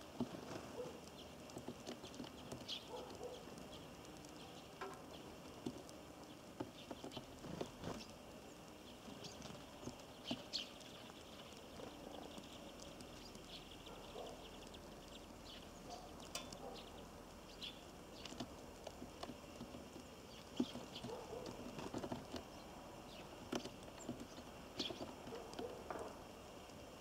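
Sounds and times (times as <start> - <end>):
birds pecking and landing: 0.0 - 27.0.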